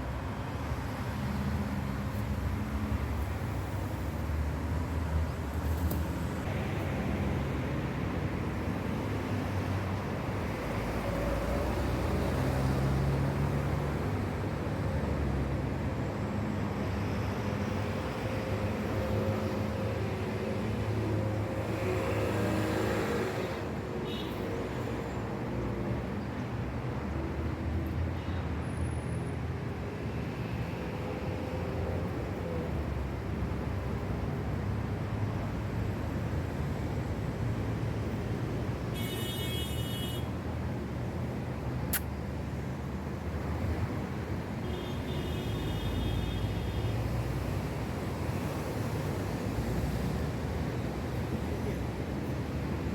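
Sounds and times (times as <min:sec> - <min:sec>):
road traffic: 0:00.0 - 0:52.9.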